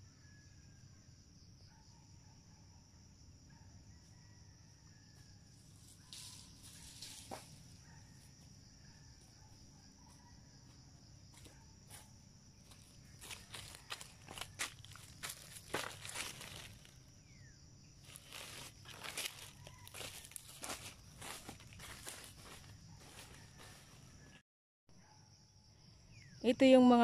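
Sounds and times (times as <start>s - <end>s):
insects chirring: 0.1s - 24.4s, 25.0s - 27.0s.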